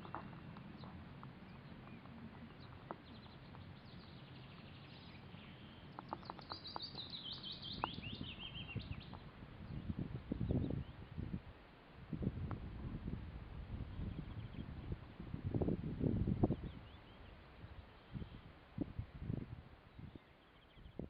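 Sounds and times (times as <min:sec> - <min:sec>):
small birds singing: 0:00.0 - 0:11.4, 0:12.3 - 0:18.6, 0:19.2 - 0:21.0
faint low background noise: 0:00.0 - 0:21.0.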